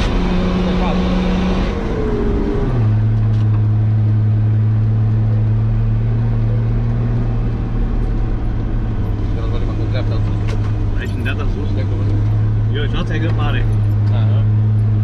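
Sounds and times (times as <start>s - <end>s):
off-road vehicle engine drone: 0.0s - 15.0s.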